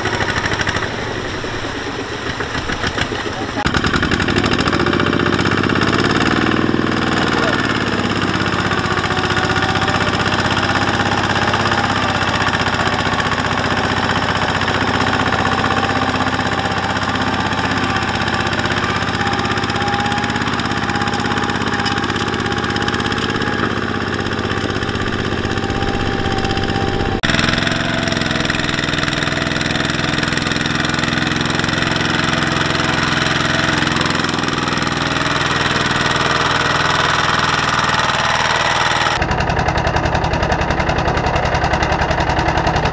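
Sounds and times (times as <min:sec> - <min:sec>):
walking tractor diesel engine: 0:00.0 - 0:42.9.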